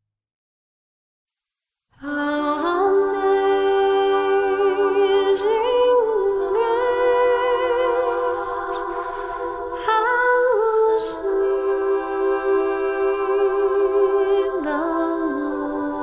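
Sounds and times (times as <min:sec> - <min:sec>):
wordless vocal melody: 0:02.0 - 0:16.0.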